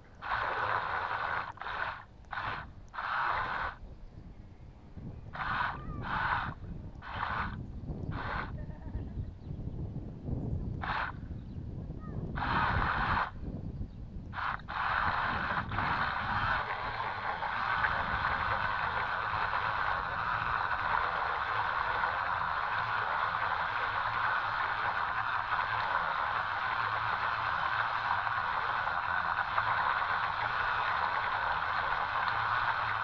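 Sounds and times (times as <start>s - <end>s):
toy boat motors running: 0.0s - 3.8s, 5.3s - 8.6s, 12.3s - 13.4s, 14.3s - 33.0s
propellers churning water: 0.0s - 4.0s, 5.2s - 8.9s, 10.8s - 11.2s, 12.3s - 13.6s, 14.2s - 33.0s.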